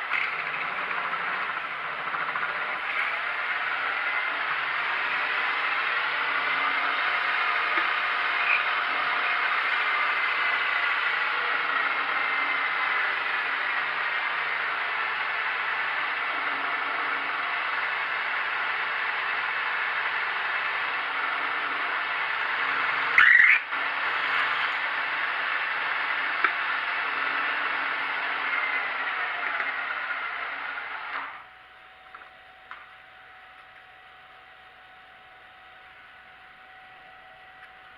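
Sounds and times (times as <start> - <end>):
machine spindle drilling: 0.0 - 34.0.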